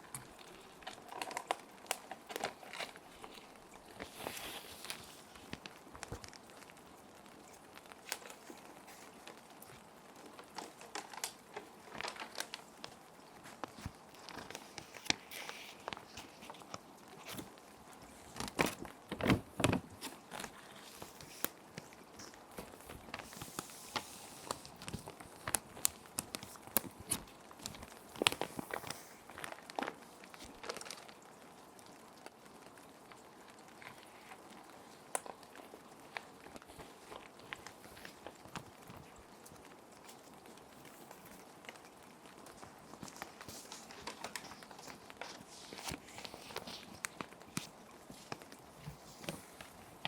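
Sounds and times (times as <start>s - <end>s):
rain hissing: 0.0s - 19.0s, 19.9s - 50.0s
plastic sheet protectors crinkling: 0.0s - 50.0s.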